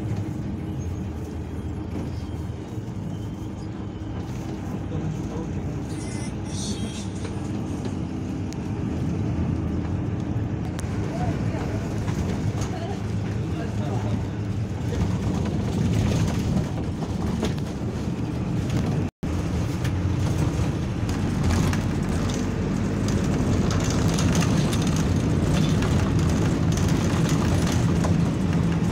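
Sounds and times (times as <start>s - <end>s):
bus engine and road noise: 0.0s - 28.9s.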